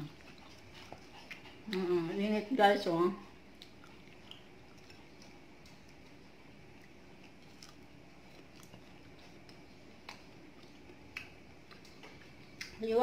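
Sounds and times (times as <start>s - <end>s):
faint chewing: 0.0s - 2.6s, 3.2s - 13.0s.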